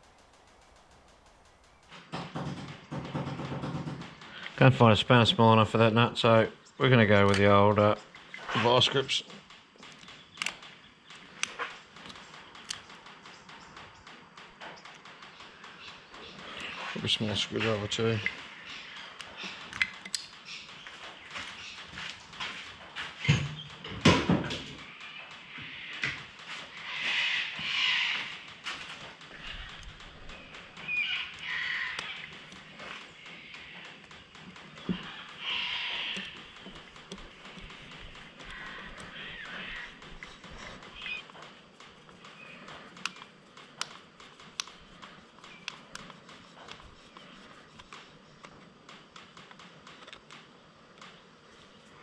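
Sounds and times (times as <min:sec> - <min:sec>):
hand tools clicking and tapping: 0:00.0 - 0:06.0, 0:06.9 - 0:52.0.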